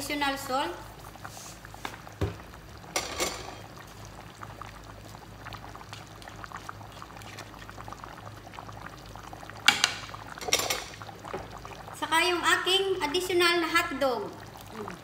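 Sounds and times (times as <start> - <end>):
stew bubbling in a pot: 0.0 - 15.0.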